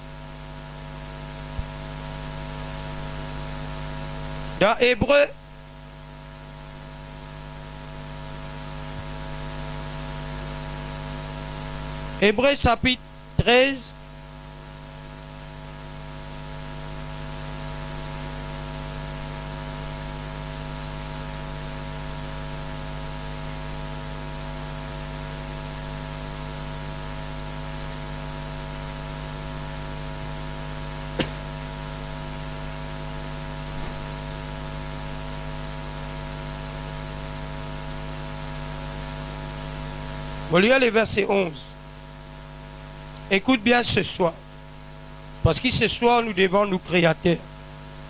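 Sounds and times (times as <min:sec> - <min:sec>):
electrical mains hum with hiss: 0:00.0 - 0:48.0.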